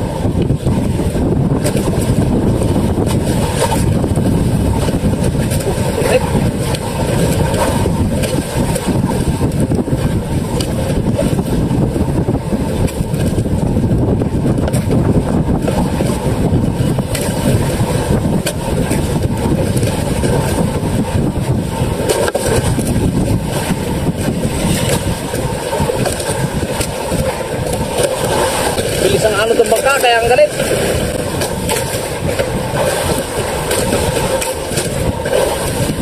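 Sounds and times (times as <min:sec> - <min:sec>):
boat engine running: 0:00.0 - 0:36.0
water rushing along hull: 0:00.0 - 0:36.0
wind: 0:00.0 - 0:36.0.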